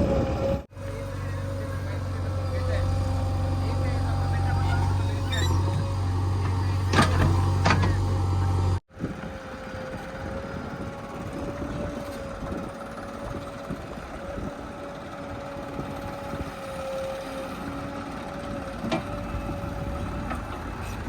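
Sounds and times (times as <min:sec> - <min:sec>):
heavy machinery diesel engine running: 0:00.0 - 0:21.0.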